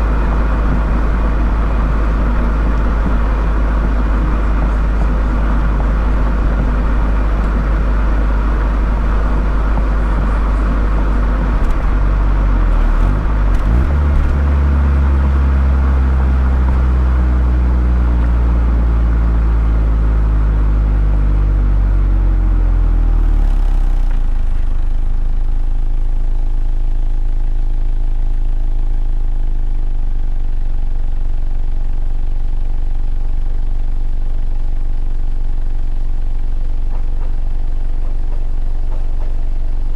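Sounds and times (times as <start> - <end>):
car engine and exhaust: 0.0 - 39.9.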